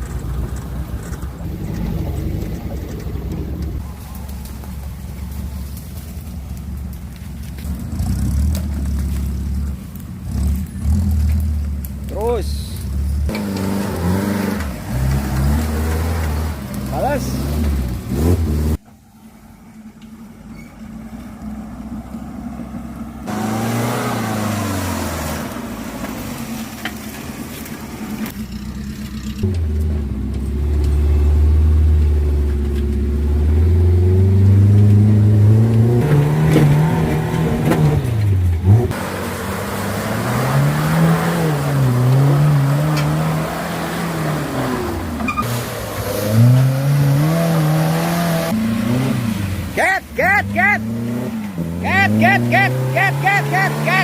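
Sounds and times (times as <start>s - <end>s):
off-road vehicle engine revving: 6.5s - 18.8s, 20.5s - 54.0s.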